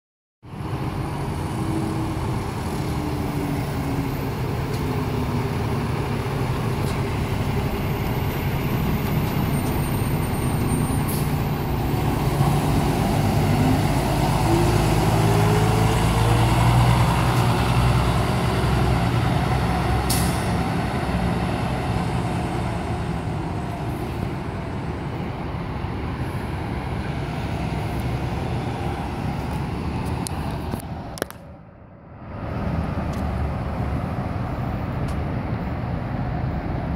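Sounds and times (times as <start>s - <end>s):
bus diesel engine accelerating: 0.4s - 36.9s.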